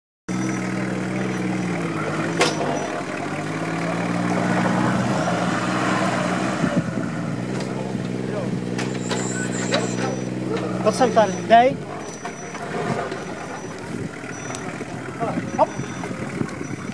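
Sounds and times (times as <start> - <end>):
suv engine running at low revs: 0.3 - 16.9.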